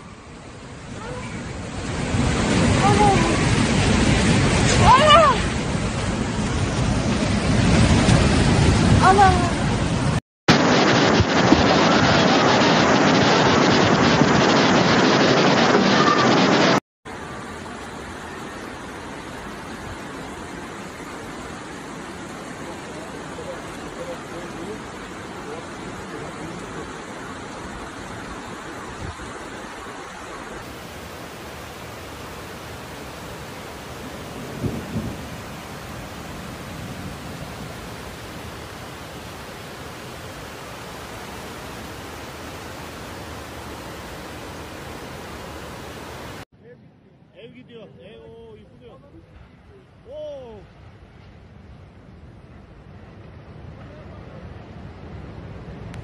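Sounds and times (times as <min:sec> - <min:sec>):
floodwater rushing: 0:00.0 - 0:46.4.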